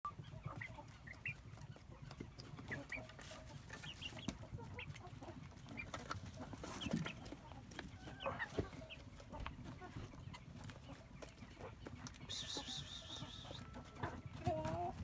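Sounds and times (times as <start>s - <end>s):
chickens clucking: 0.1s - 15.0s.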